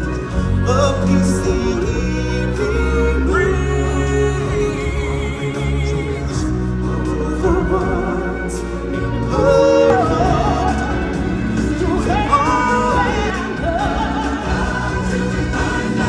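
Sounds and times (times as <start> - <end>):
band music: 0.0 - 16.0
singers holding wavering notes: 0.0 - 16.0.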